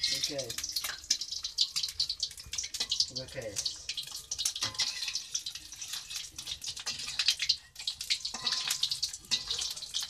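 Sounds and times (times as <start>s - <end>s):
egg sizzling in hot oil: 0.0s - 10.0s
spattering oil crackling: 0.0s - 10.0s.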